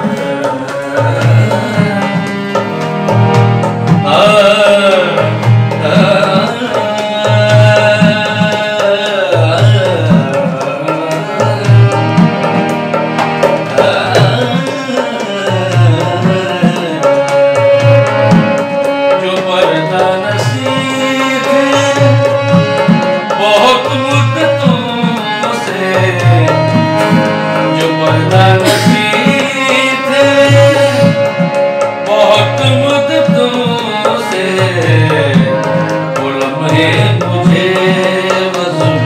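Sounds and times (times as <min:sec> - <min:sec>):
hand drum beat: 0:00.0 - 0:39.0
harmonium melody: 0:00.0 - 0:39.0
man singing: 0:00.0 - 0:39.0.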